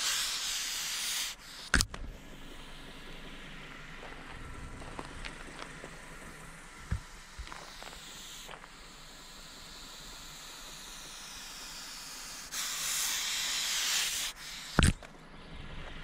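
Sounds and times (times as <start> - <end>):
snake hissing: 0.0 - 14.9.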